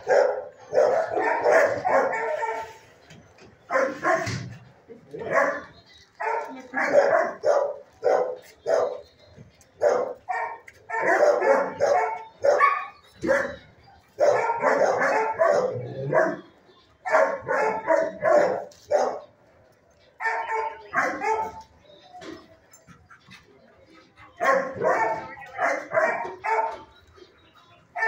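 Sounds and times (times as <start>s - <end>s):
dogs barking: 0.0s - 2.8s, 3.6s - 4.6s, 5.2s - 9.1s, 9.8s - 19.4s, 20.2s - 27.2s.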